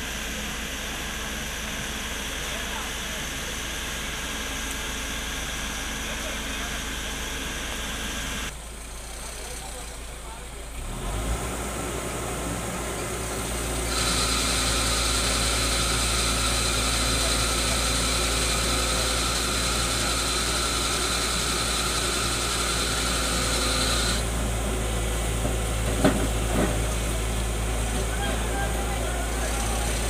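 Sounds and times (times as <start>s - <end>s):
diesel engine under load: 0.0s - 30.0s
hydraulic whine: 0.0s - 30.0s.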